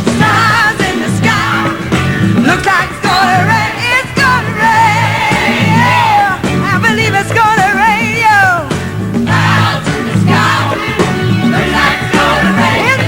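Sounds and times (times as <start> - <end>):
bass line: 0.0 - 13.0
drums: 0.0 - 13.0.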